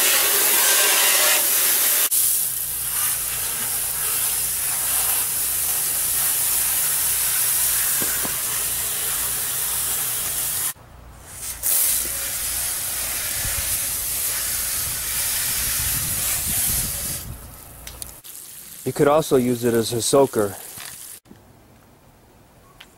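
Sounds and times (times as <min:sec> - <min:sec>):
water jets spraying: 0:00.0 - 0:21.2.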